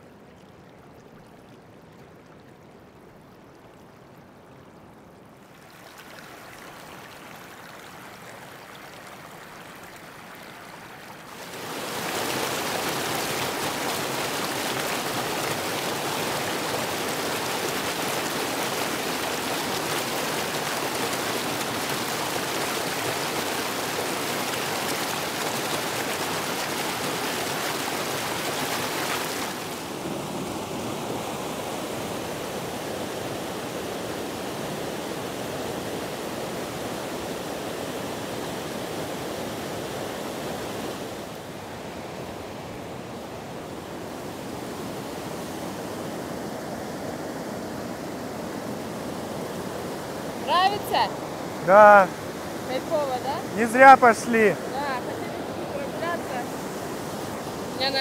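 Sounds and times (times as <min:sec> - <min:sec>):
mountain water rushing: 0:00.0 - 0:58.0.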